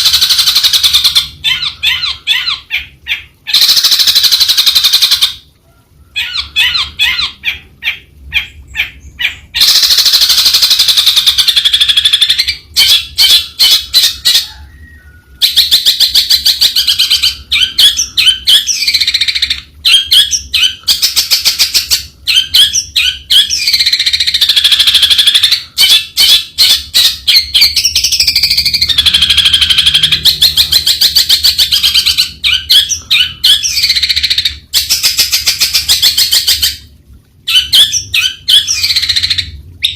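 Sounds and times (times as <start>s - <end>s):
bird chattering and whistling: 0.0s - 5.4s, 6.2s - 36.8s.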